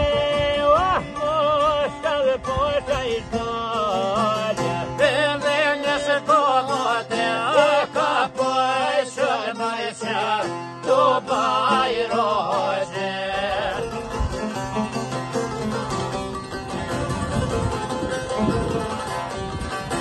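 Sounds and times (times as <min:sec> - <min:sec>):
man singing folk song: 0:00.0 - 0:20.0
strummed lutes: 0:00.0 - 0:20.0.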